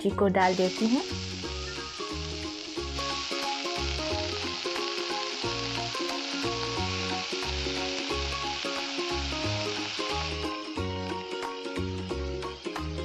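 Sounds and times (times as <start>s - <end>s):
background music with bass and melody: 0.0s - 13.0s
leaves sizzling in hot oil: 0.0s - 13.0s.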